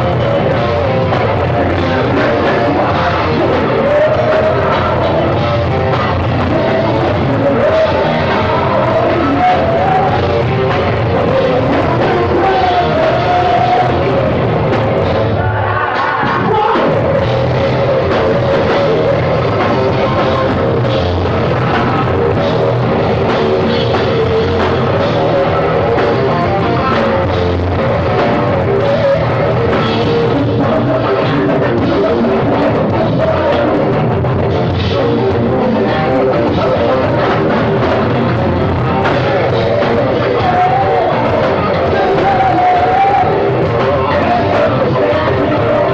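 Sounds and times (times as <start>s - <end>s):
person singing: 0.0s - 45.9s
rock band playing live: 0.0s - 45.9s.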